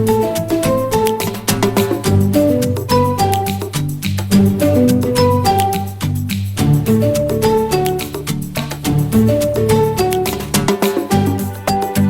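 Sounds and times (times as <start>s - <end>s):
upbeat salsa-like music: 0.0s - 12.0s.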